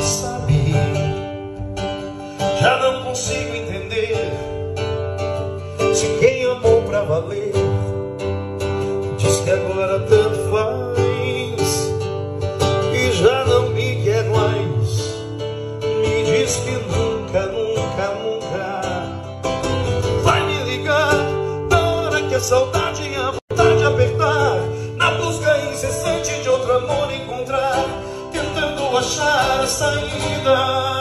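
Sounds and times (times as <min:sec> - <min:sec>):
amplified acoustic guitar: 0:00.0 - 0:31.0.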